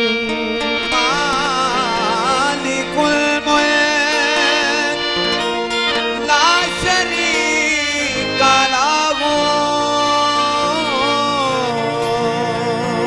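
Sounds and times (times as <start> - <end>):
harmonium chords: 0.0 - 13.0
person singing long notes: 0.0 - 13.0.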